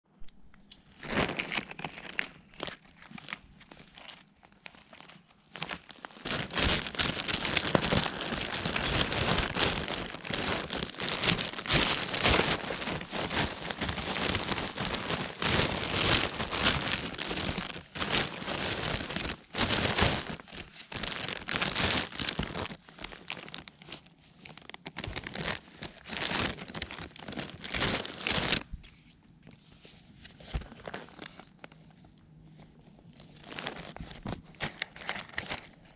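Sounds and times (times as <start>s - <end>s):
dense crackling and rustling: 1.0s - 35.9s.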